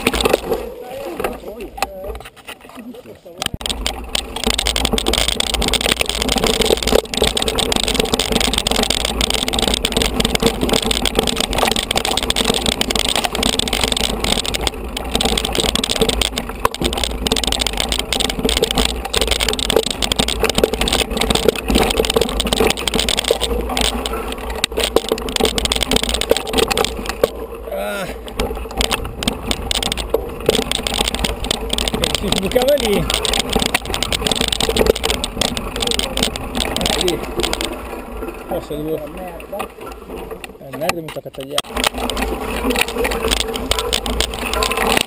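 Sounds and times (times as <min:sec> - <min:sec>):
bike rattling and knocking: 0:00.0 - 0:45.0
bike tyres on dirt and stones: 0:00.0 - 0:45.0.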